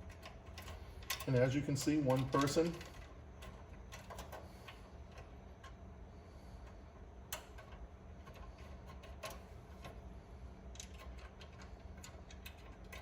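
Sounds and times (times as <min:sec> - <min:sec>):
light clicks of metal parts: 0:00.0 - 0:05.8, 0:06.6 - 0:13.0
low steady hum: 0:00.0 - 0:13.0.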